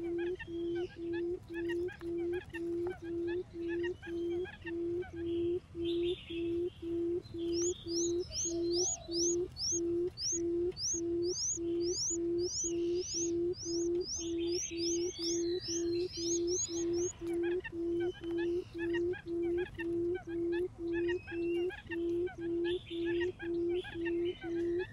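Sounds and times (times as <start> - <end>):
buttonquail booming hoots: 0.0 - 24.9
small bird chirping: 0.0 - 24.9.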